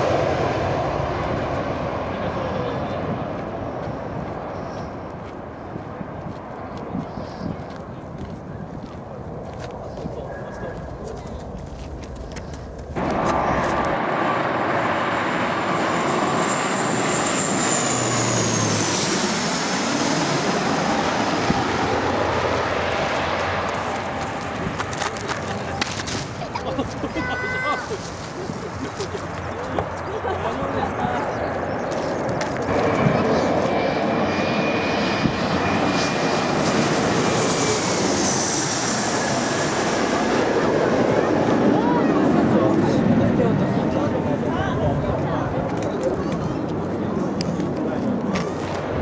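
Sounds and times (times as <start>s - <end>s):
jet airliner passing overhead: 0.0s - 49.0s
high engine whine: 7.8s - 27.6s, 28.3s - 49.0s.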